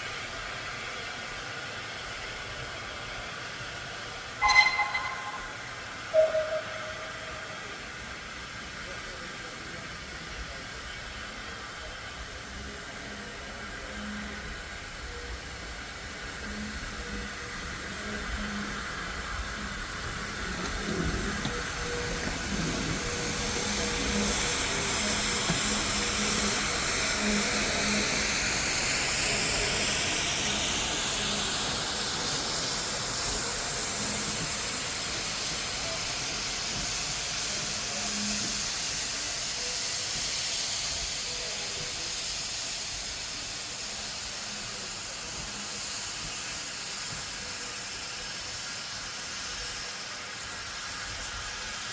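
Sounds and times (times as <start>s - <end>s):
steam locomotive hissing steam: 0.0s - 51.9s.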